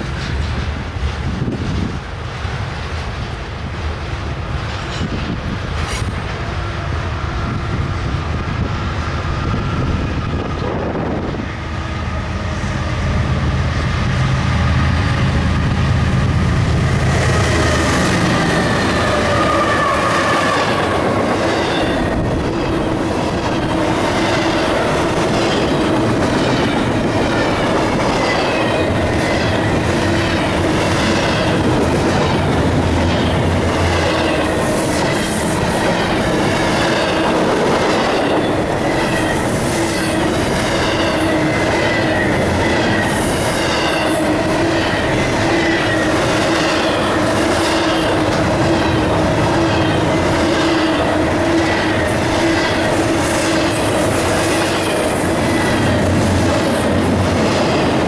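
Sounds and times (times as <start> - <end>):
train wheels clicking over rail joints: 0.0 - 7.7, 15.0 - 58.0
locomotive passing: 0.0 - 58.0
train rumble: 0.0 - 58.0.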